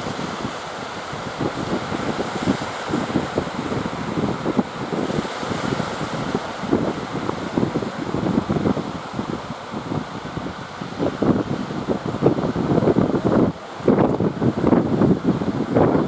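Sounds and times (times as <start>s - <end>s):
sea surf rushing: 0.0s - 16.0s
wind buffeting microphone: 0.0s - 16.0s.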